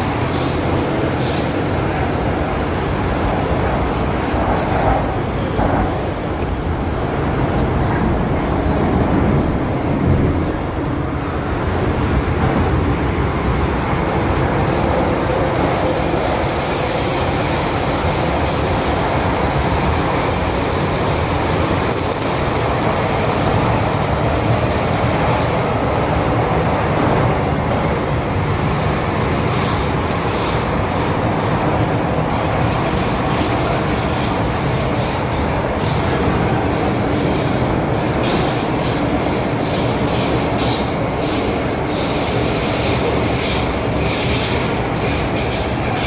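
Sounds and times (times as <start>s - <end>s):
metro train rumbling: 0.0s - 46.0s.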